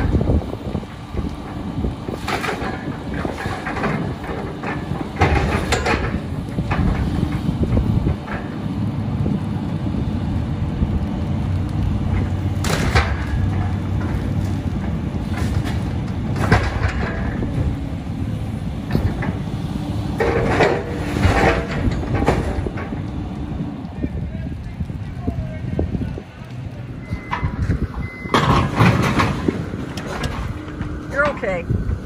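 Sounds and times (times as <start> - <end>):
debris crunching and crashing: 0.0 - 31.0
diesel excavator engine running: 0.0 - 32.0.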